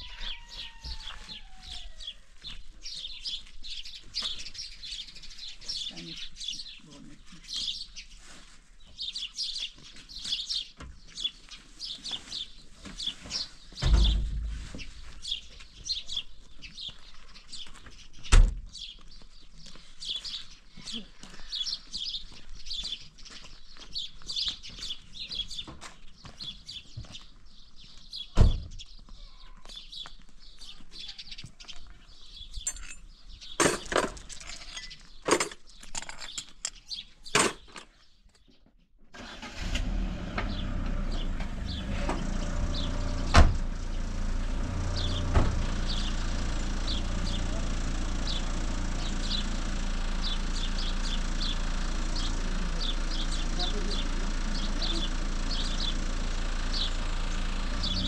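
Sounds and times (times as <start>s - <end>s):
small birds chirping: 0.0s - 38.8s, 40.5s - 58.0s.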